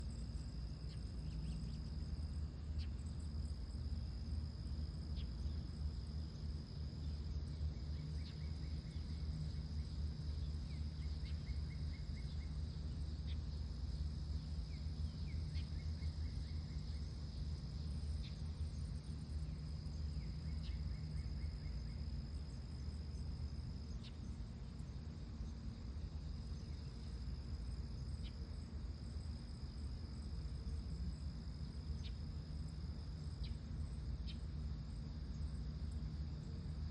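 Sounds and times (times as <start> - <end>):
constant low rumble: 0.0 - 36.9
high-pitched insect trill: 0.0 - 36.9.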